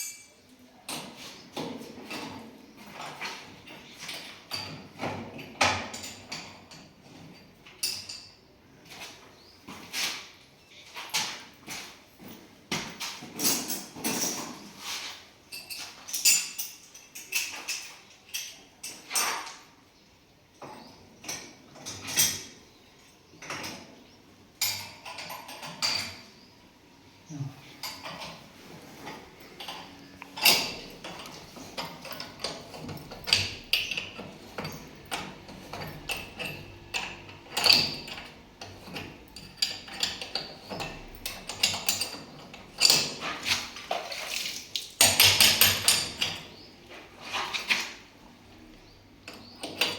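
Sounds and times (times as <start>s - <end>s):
metal tools clinking and knocking: 0.0s - 9.0s, 11.2s - 19.7s, 24.6s - 26.4s, 27.8s - 48.0s, 48.8s - 49.9s.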